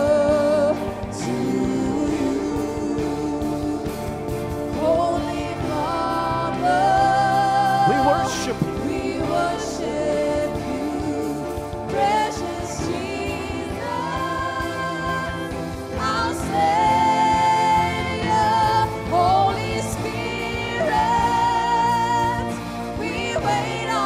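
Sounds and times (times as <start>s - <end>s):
musical accompaniment: 0.0s - 24.0s
worship team singing: 0.0s - 24.0s.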